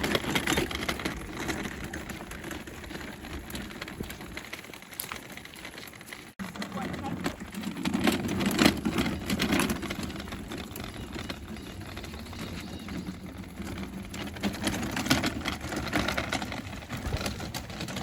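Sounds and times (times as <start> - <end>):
cart wagon rattling: 0.0 - 18.0.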